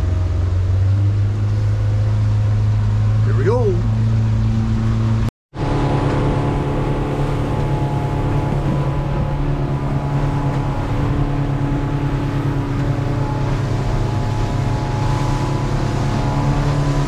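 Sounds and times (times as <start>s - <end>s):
boat engine running: 0.0s - 17.0s
water rushing along hull: 0.0s - 17.0s.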